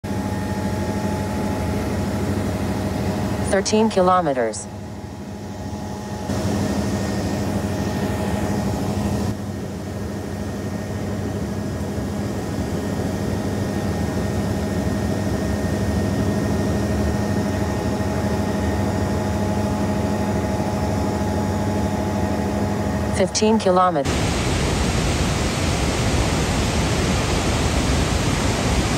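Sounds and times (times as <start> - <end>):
helicopter engine and rotor: 0.0 - 28.9.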